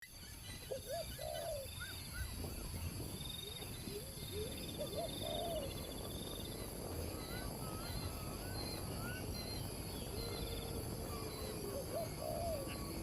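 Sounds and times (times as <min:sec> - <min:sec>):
bird calling: 0:00.3 - 0:02.5, 0:03.4 - 0:06.0, 0:07.1 - 0:13.0.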